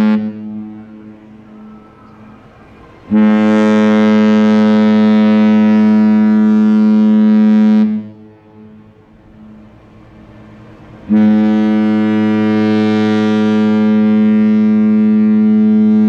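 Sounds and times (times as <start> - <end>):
ship horn long blast: 0.0 - 16.0.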